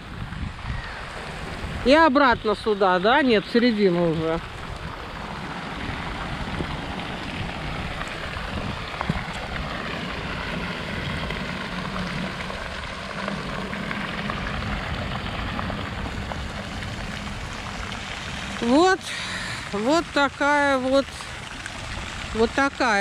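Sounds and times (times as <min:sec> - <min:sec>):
fountain water splashing into pool: 0:00.0 - 0:23.0
rain falling: 0:00.0 - 0:23.0.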